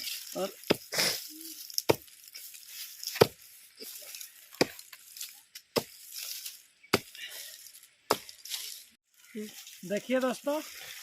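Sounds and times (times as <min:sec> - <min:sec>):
earth and dry leaves rustling: 0:00.0 - 0:11.0.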